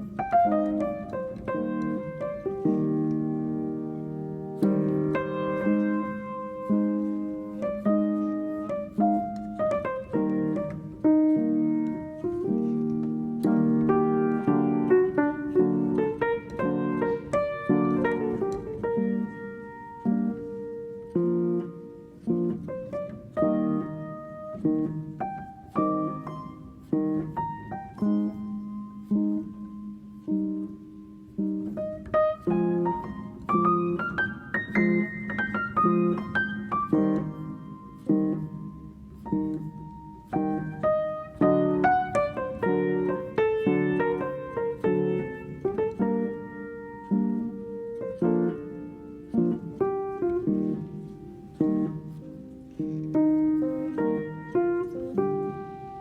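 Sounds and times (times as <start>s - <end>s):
soft piano music: 0.0s - 56.0s.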